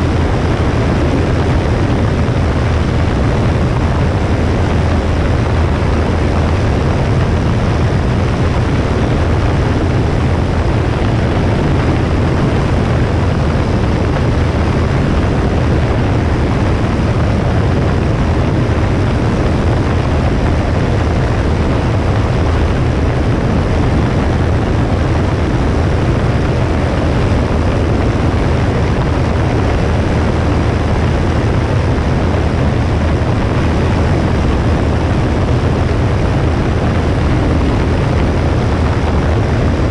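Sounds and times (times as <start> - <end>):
propeller plane engine drone: 0.0 - 39.9
wind noise on microphone: 0.0 - 39.9.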